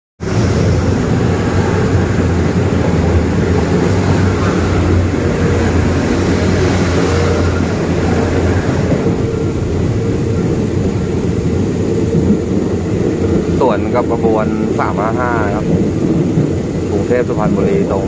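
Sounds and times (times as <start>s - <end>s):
passing train hiss: 0.2s - 18.0s
train carriage rail rumble: 0.2s - 18.0s.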